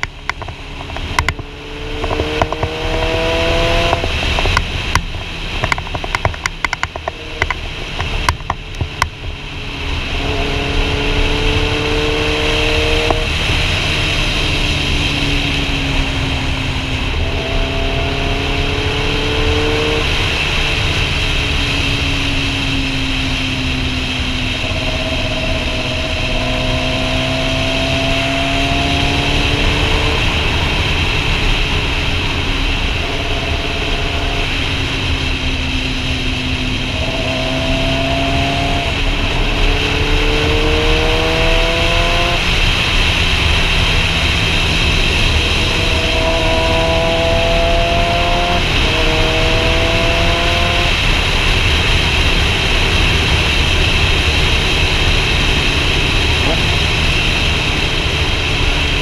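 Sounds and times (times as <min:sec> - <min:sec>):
motorcycle engine accelerating: 0:00.0 - 0:59.0
wind rush on microphone: 0:00.0 - 0:59.0.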